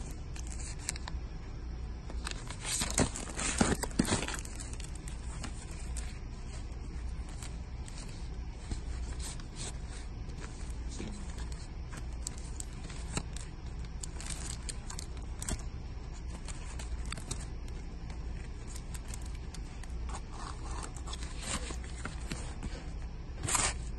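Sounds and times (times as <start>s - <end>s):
record sleeves scraping and rustling: 0.0s - 1.2s, 2.0s - 23.9s
low steady hum: 0.0s - 23.9s.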